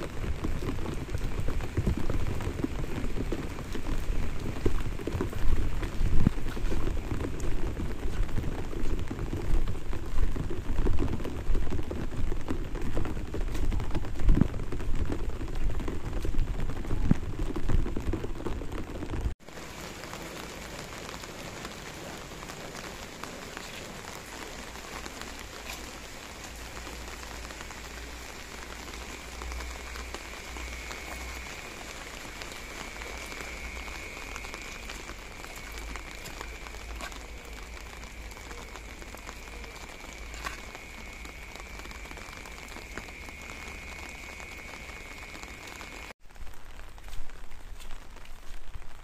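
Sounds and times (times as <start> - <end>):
light rain pattering: 0.0 - 49.0.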